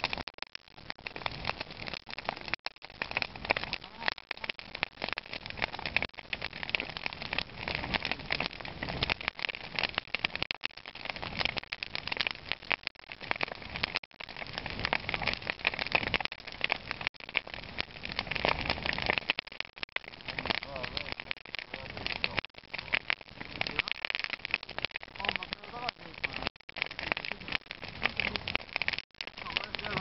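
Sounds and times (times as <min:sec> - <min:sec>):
wood bonfire crackling: 0:00.0 - 0:30.0.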